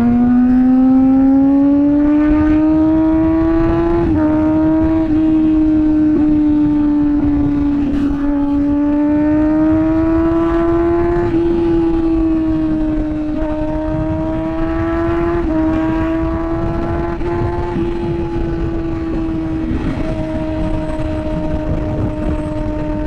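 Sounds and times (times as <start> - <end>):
motorcycle engine at high revs: 0.0 - 23.0
wind rumble on microphone: 0.0 - 23.0.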